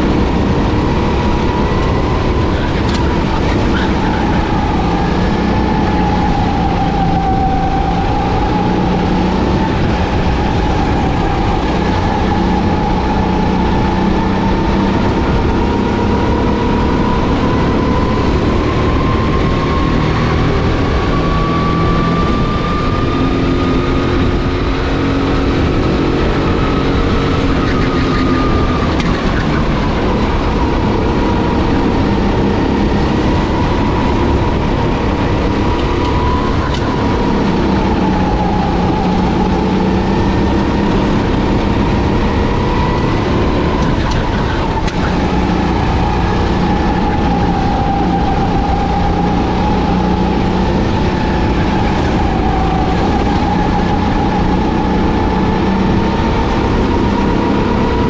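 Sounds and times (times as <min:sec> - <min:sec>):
fainter engine tones: 0:00.0 - 0:58.0
kart engine at high revs: 0:00.0 - 0:58.0.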